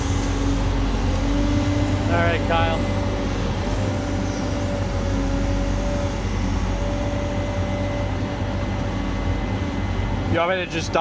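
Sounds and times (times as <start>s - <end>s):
earthmover engine running: 0.0s - 11.0s
steady whine: 0.0s - 11.0s.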